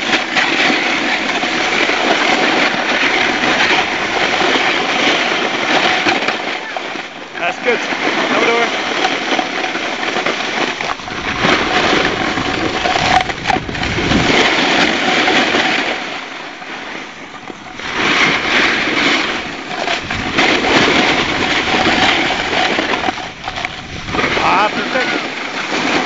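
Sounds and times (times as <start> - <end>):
skis scraping on snow: 0.0 - 26.0.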